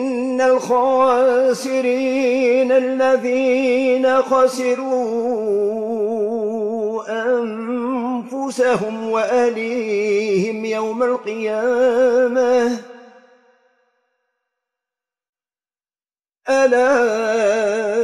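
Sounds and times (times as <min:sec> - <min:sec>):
man chanting: 0:00.0 - 0:13.5, 0:16.5 - 0:18.0.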